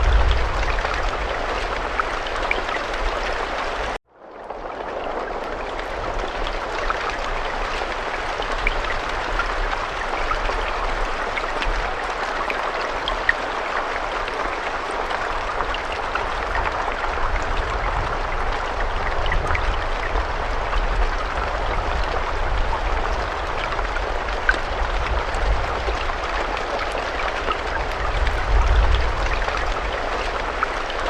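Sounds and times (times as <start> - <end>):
raindrops ticking: 0.0 - 31.0
steady rain hiss: 0.0 - 31.0.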